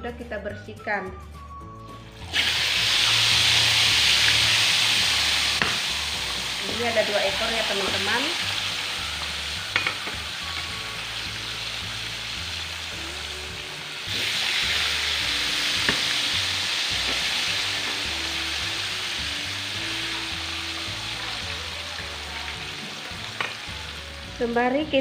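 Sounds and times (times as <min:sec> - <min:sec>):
fish frying in hot oil: 0:02.2 - 0:24.6.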